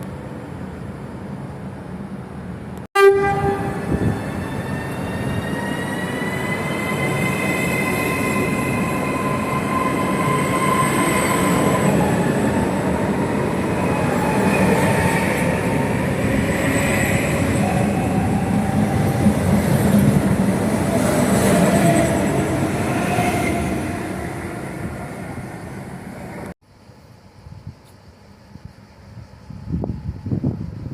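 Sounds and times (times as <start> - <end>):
train rumble: 0.0 - 26.6.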